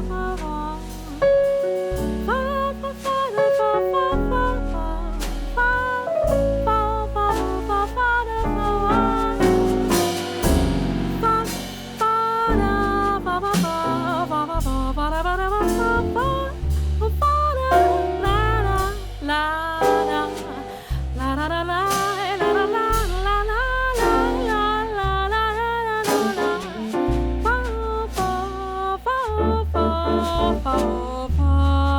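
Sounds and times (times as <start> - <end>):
drums: 0.0 - 31.7
double bass: 0.0 - 31.9
jazz ballad on piano: 0.0 - 31.9.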